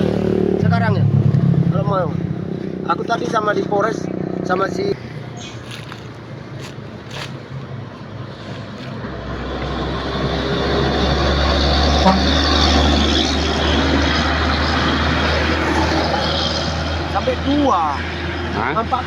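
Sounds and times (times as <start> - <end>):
heavy vehicle engine rumbling: 0.0 - 19.0.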